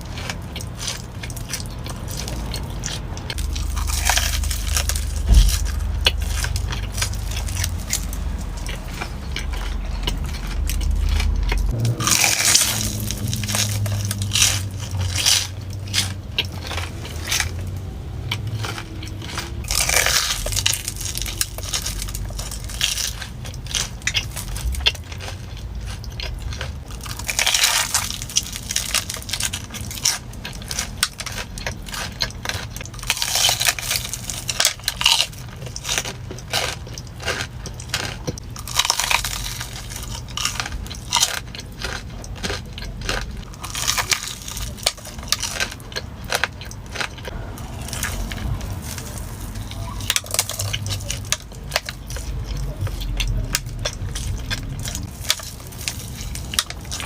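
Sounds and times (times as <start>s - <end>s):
crunchy bites and chewing: 0.0s - 57.0s.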